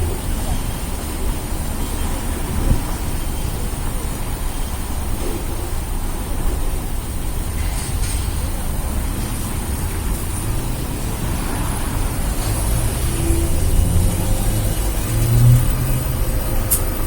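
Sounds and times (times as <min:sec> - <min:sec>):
traffic on wet street: 0:00.0 - 0:17.0.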